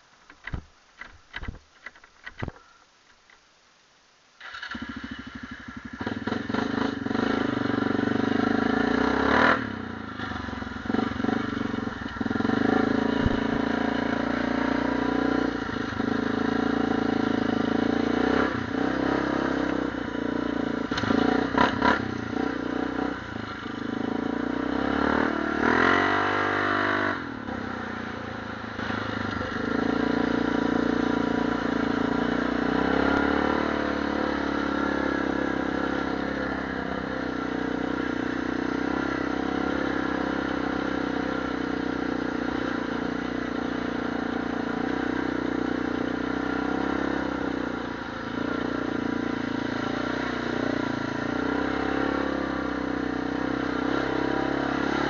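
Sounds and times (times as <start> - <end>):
atv engine revving: 4.4 - 55.0.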